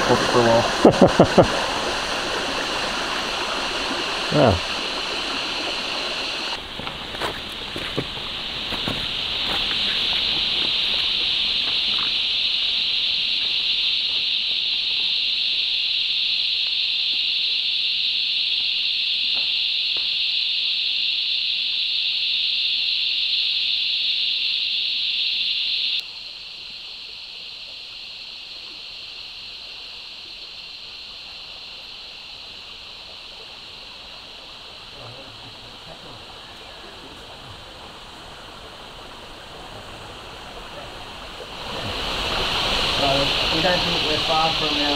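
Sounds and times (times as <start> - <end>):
cicadas droning: 0.0 - 44.9.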